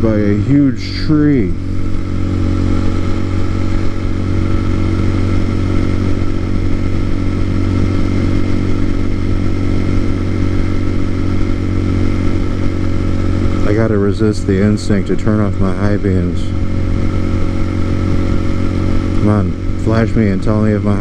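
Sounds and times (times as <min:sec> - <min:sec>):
motorcycle engine cruising: 0:00.0 - 0:21.0.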